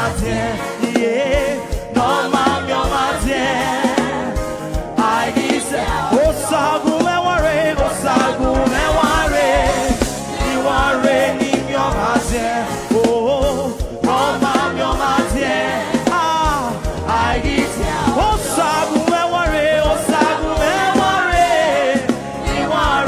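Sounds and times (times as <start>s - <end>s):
man singing with vibrato: 0.0s - 3.7s, 5.0s - 23.0s
band with steady drum beat: 0.0s - 23.0s.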